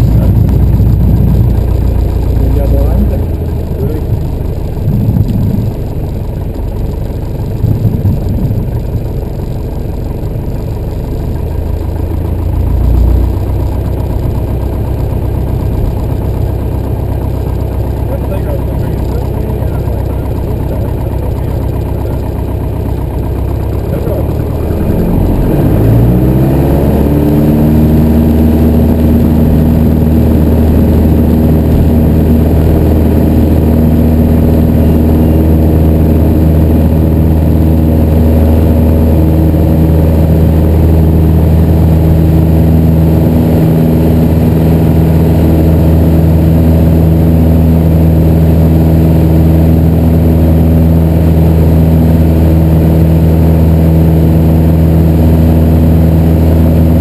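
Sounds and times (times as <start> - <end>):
aircraft engine and propeller at full power: 0.0 - 57.0.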